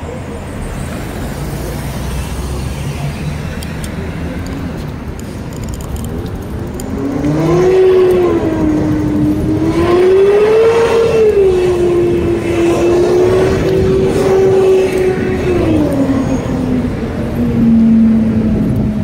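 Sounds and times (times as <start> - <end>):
street traffic rumbling: 0.0 - 19.0.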